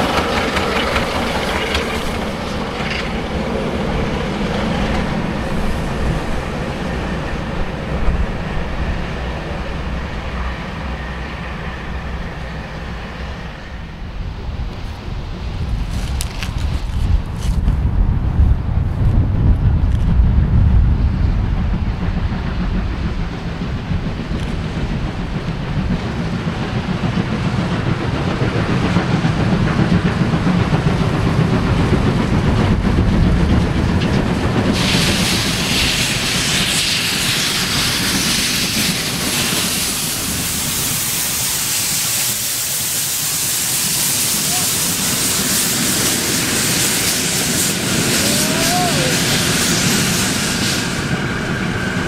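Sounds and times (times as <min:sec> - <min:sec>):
loud steady steam hiss: 0:00.0 - 0:17.2, 0:20.4 - 0:52.0
steam train rumbling: 0:00.0 - 0:52.0.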